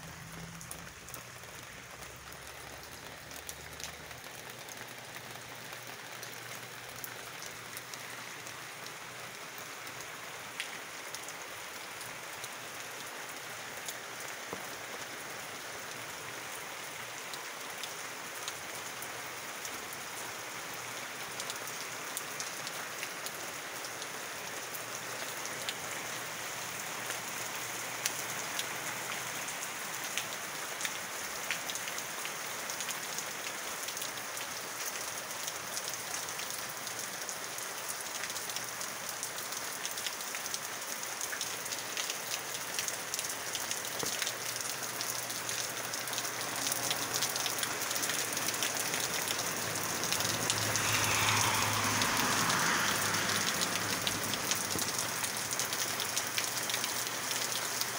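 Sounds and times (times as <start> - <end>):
raindrops tapping close by: 0.0 - 57.9
steady rain: 0.0 - 57.9.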